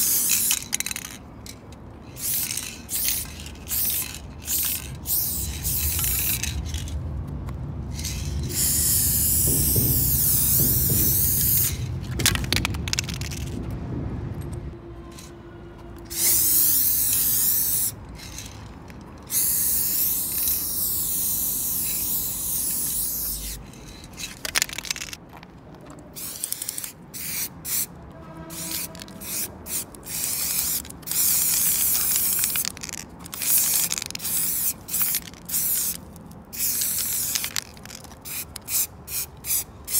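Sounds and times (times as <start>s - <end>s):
spray paint can hissing: 0.0s - 1.2s, 2.0s - 7.0s, 7.9s - 13.6s, 16.1s - 18.6s, 19.2s - 25.2s, 26.2s - 27.9s, 28.5s - 39.9s.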